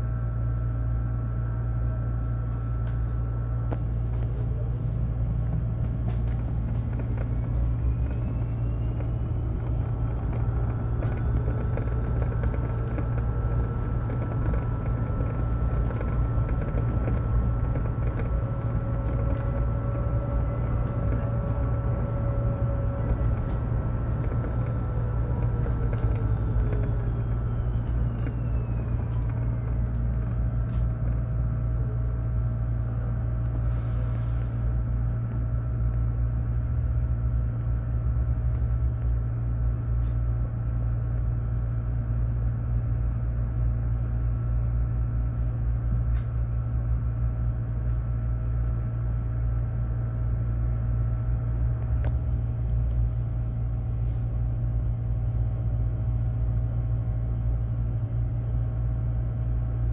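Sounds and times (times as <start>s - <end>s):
electric bus running: 0.0s - 59.9s.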